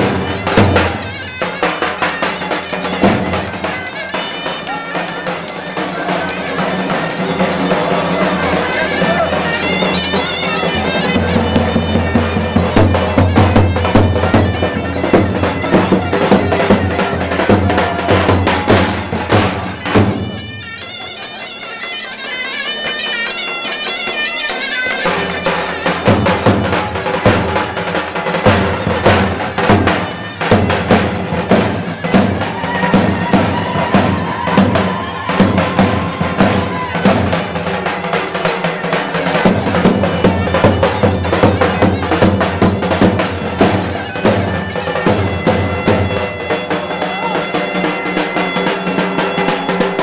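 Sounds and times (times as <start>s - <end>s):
reedy wind instrument melody: 0.0s - 50.0s.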